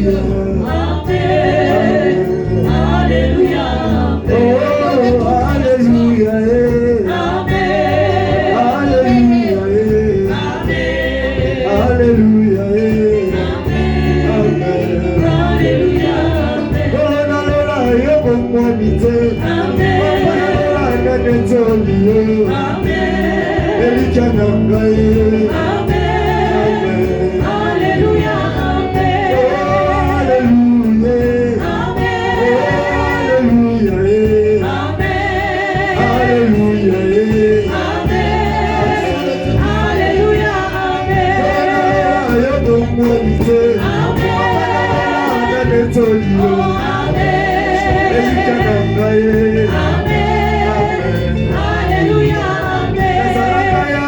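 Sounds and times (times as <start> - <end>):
instrumental backing with bass: 0.0 - 54.0
voices singing with vibrato: 0.0 - 54.0.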